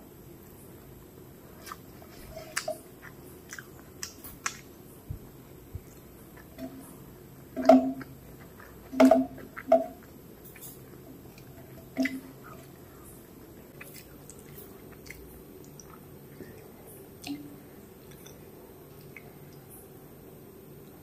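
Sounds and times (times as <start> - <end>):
squishy eating sounds: 0.4 - 19.9
chewing with wet mouth clicks: 1.6 - 5.1, 5.7 - 19.8.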